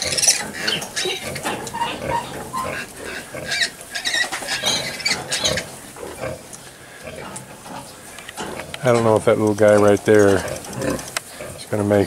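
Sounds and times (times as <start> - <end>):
piglets squealing and grunting: 0.0 - 8.9, 10.1 - 11.7.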